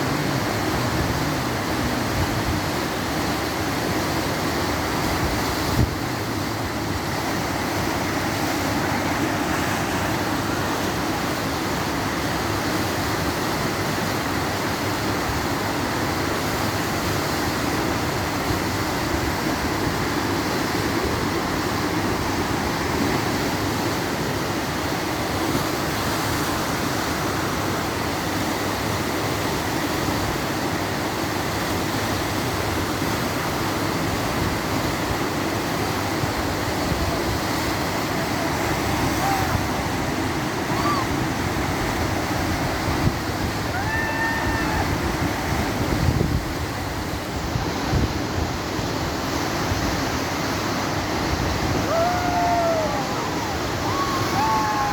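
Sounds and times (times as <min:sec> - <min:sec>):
whitewater rapids rushing: 0:00.0 - 0:54.9.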